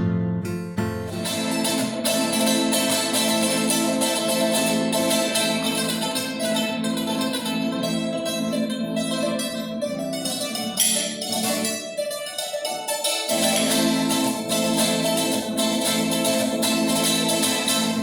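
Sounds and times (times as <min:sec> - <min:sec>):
plucked string instruments: 0:00.0 - 0:18.0.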